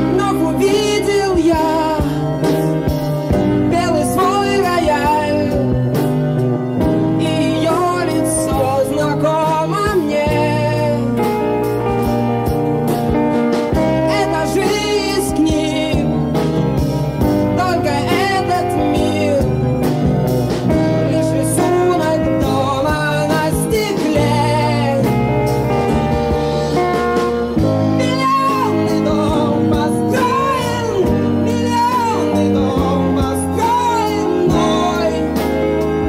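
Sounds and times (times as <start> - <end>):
bass guitar: 0.0 - 36.0
drums: 0.0 - 36.0
electric guitars: 0.0 - 36.0.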